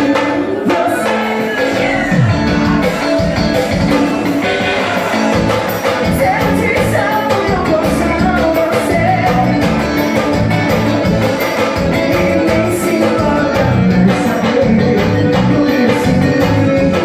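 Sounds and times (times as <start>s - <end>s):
forro music with driving beat: 0.0s - 17.0s.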